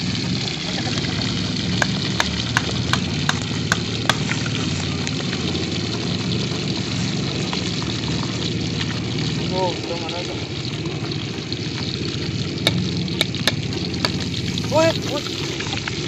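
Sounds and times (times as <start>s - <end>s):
fish sizzling in hot oil: 0.0s - 16.0s
oil popping: 0.0s - 16.0s.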